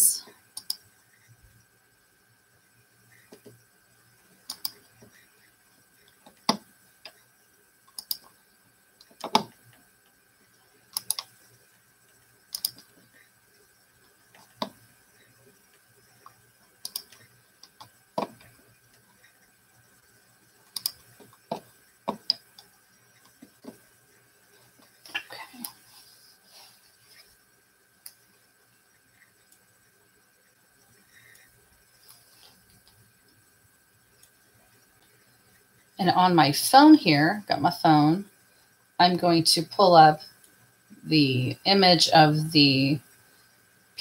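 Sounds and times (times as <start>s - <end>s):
faint high tone hum: 0.0s - 44.0s.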